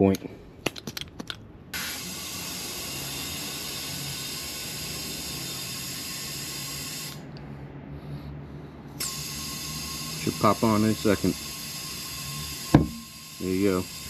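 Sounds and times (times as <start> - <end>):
compressed air hissing into tire: 1.7 - 7.5, 8.2 - 14.0.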